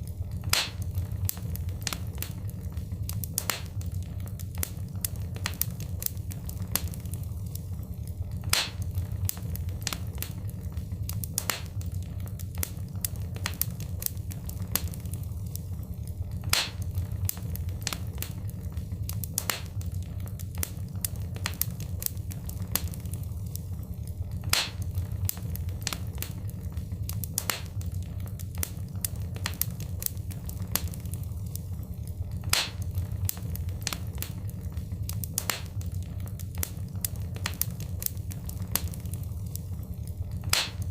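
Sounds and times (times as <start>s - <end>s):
low rumble of burning: 0.0s - 40.9s
wood fire snapping and popping: 0.0s - 40.9s.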